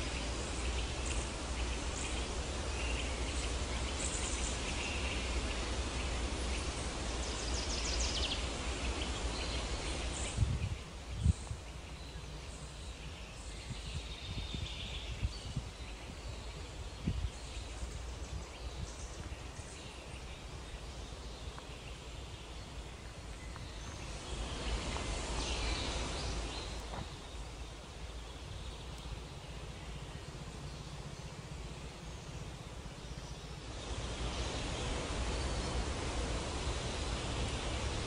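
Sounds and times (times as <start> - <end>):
small birds chirping: 0.0 - 38.0
steady rushing hiss: 0.0 - 38.0.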